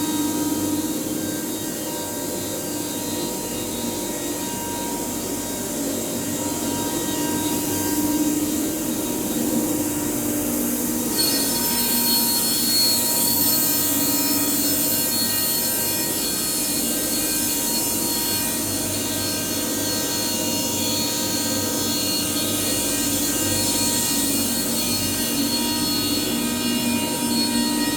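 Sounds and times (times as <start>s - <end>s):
cnc router spindle whine: 0.0s - 27.9s.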